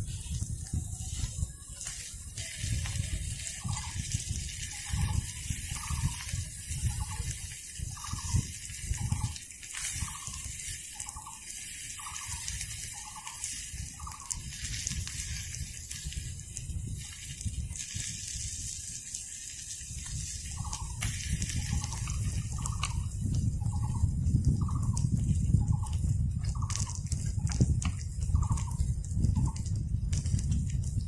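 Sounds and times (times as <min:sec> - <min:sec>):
water dripping: 0:00.0 - 0:31.0.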